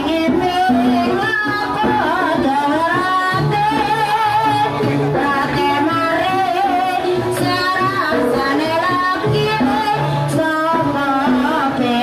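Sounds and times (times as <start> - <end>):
percussion ensemble playing: 0.0 - 12.0
woman singing: 0.0 - 12.0.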